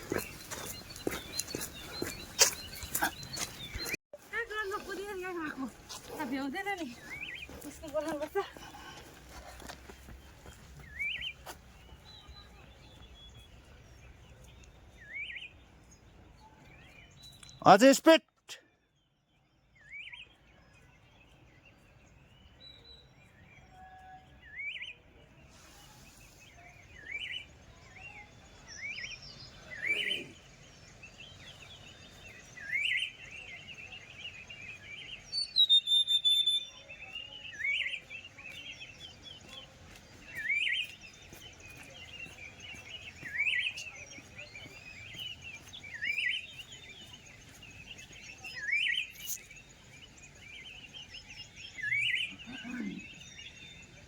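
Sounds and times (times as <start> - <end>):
birds chirping softly: 0.0 - 54.0.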